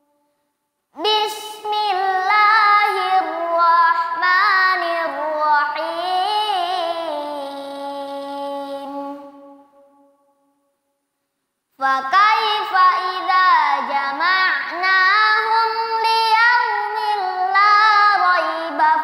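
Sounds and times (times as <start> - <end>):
boy chanting recitation: 1.0 - 10.0, 11.7 - 19.0.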